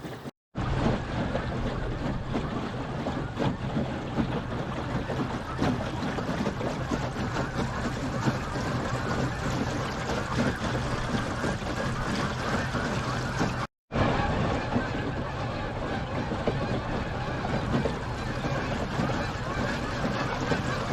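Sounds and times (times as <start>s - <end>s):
water washing along boat hull: 0.1s - 20.9s.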